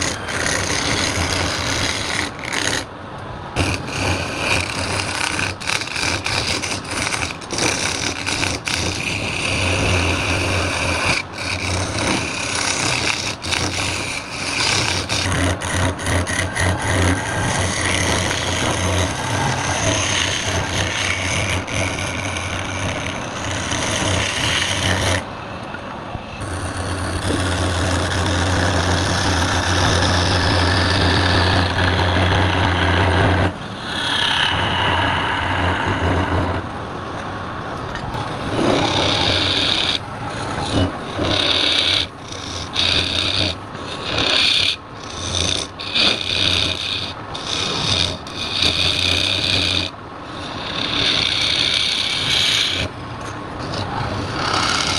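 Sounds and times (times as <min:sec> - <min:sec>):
lathe tool cutting wood: 0:00.0 - 0:02.9, 0:03.6 - 0:25.2, 0:26.4 - 0:36.6, 0:38.2 - 0:49.9, 0:50.7 - 0:52.9
lathe motor hum: 0:00.0 - 0:49.9, 0:50.5 - 0:54.9.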